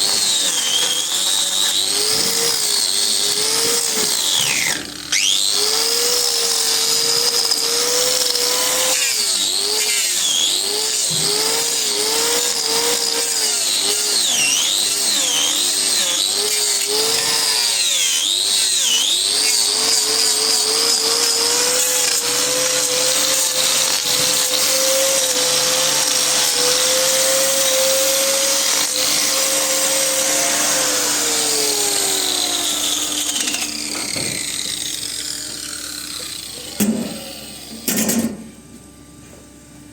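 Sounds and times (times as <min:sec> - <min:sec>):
power grinder motor whine: 0:00.0 - 0:38.3.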